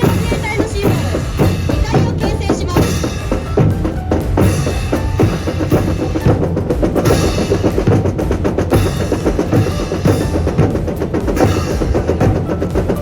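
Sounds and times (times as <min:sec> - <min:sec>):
snare and bass drums: 0:00.0 - 0:13.0.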